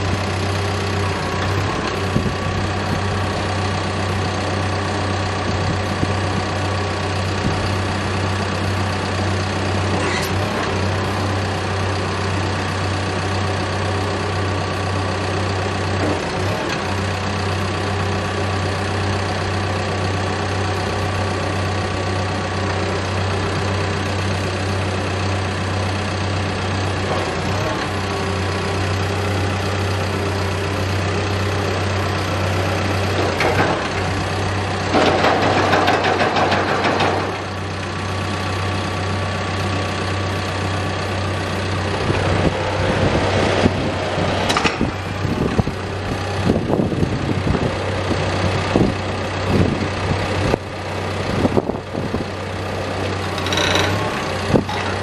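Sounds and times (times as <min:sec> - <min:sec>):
hydraulics working: 0:00.0 - 0:23.9, 0:24.9 - 0:55.0
diesel engine running: 0:00.0 - 0:55.0.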